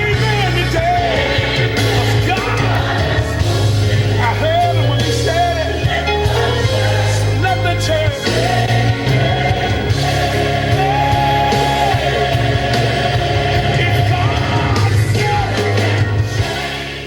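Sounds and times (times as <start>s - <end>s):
band accompaniment with bass: 0.0s - 17.0s.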